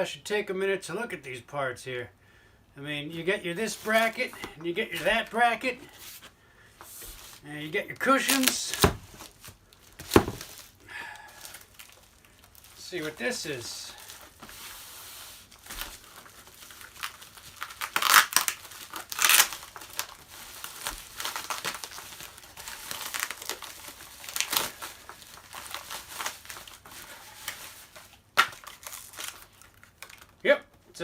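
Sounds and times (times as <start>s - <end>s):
packaging crinkling and tearing: 3.6s - 6.3s, 7.0s - 30.4s.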